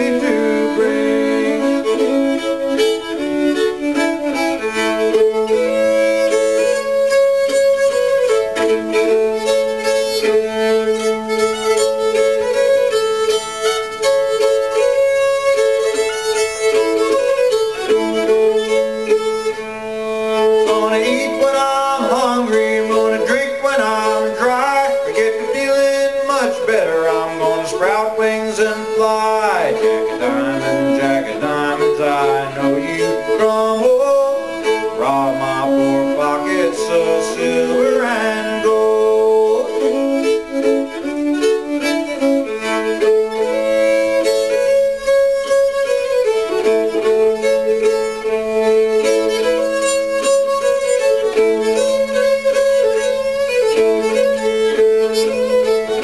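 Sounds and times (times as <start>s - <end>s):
solo fiddle tune: 0.0s - 56.0s.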